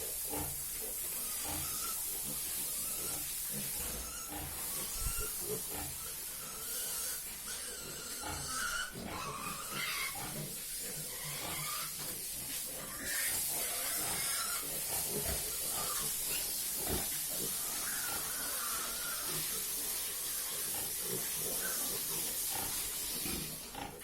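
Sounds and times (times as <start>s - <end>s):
faint pig grunts: 0.0s - 24.0s
steady high hiss: 0.0s - 24.0s.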